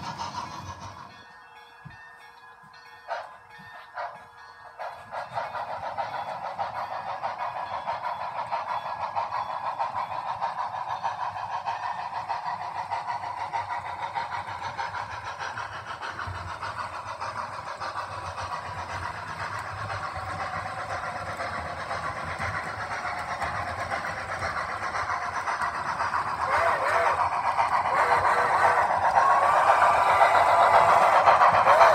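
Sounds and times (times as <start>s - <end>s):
model train running on track: 0.0s - 31.9s.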